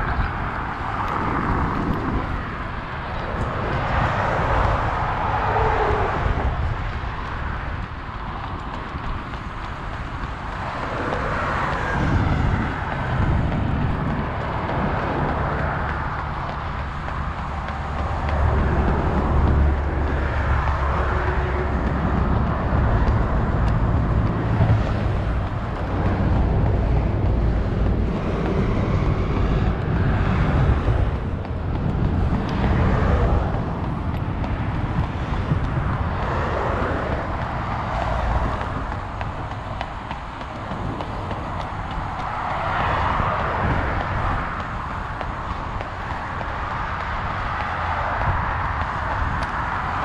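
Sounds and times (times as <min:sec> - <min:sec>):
low traffic rumble: 0:00.0 - 0:50.0
vehicles passing: 0:00.0 - 0:50.0.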